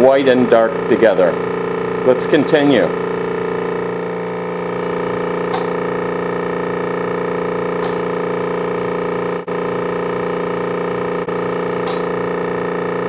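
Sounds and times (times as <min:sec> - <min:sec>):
machine motor humming: 0:00.0 - 0:13.0.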